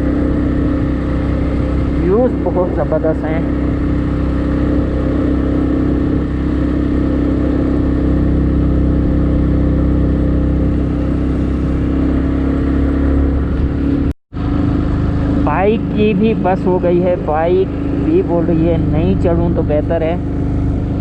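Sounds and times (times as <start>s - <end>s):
motorcycle engine straining uphill: 0.0s - 21.0s.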